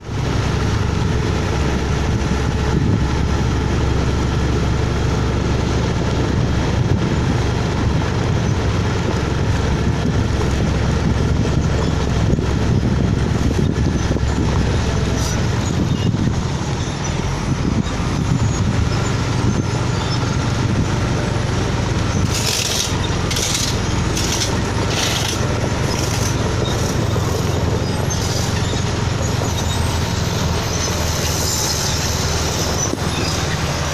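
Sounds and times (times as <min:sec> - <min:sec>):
diesel engine rumbling: 0:00.0 - 0:33.9.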